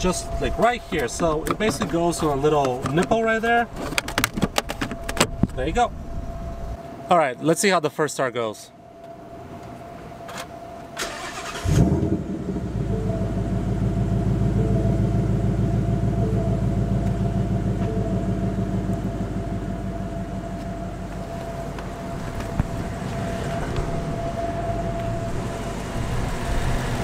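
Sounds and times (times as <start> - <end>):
car engine cranking and idling: 0.0 - 6.8, 11.0 - 27.0.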